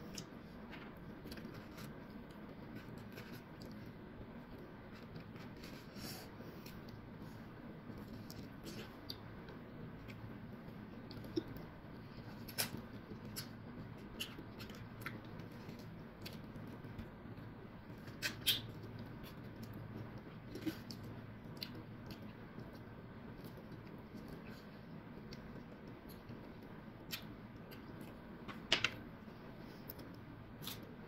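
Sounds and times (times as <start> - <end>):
faint low hum: 0.0 - 31.0.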